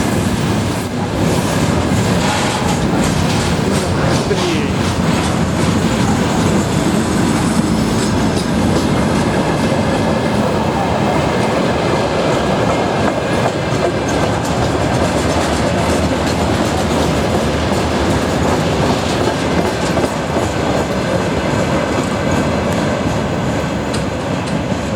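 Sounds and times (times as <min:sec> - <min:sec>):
clickety-clack of train wheels: 0:00.0 - 0:24.9
freight train rumbling past: 0:00.0 - 0:24.9.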